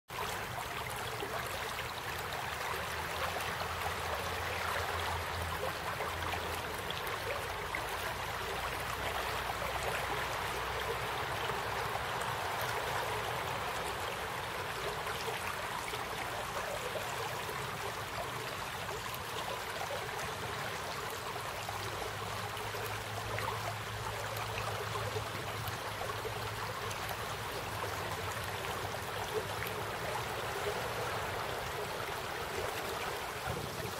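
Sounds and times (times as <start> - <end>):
floodwater rushing: 0.2 - 33.9.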